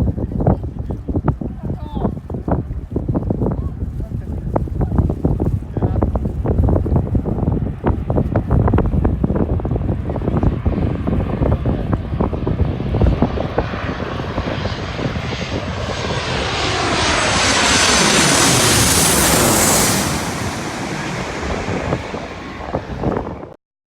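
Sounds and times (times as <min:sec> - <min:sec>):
wind buffeting microphone: 0:00.0 - 0:23.6
jet airliner passing overhead: 0:00.1 - 0:23.6.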